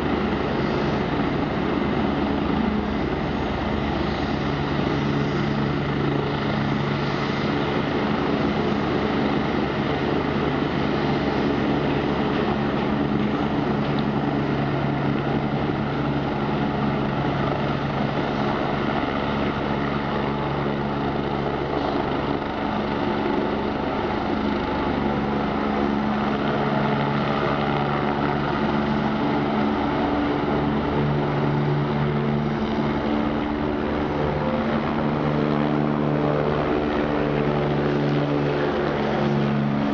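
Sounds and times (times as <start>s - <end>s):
helicopter turbine hum: 0.0s - 39.9s.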